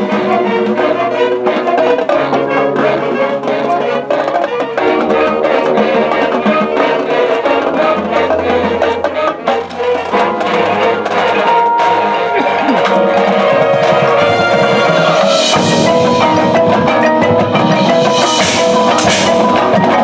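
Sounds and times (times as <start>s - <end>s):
brass and woodwinds chords: 0.0s - 20.0s
drumline percussion strikes: 0.0s - 20.0s.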